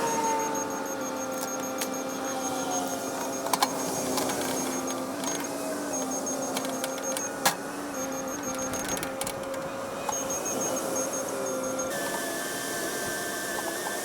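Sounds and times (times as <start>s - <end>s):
excavator whine: 0.0s - 14.0s.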